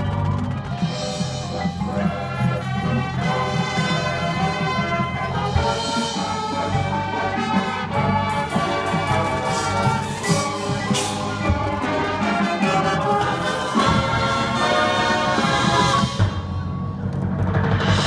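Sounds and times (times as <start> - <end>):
marching band brass chords: 0.0 - 18.0
timpani strokes: 0.6 - 16.5.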